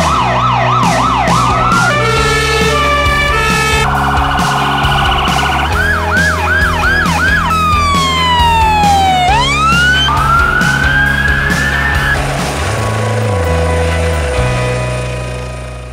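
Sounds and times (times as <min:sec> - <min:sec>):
emergency vehicle sirens: 0:00.0 - 0:14.7
background music: 0:00.0 - 0:15.9.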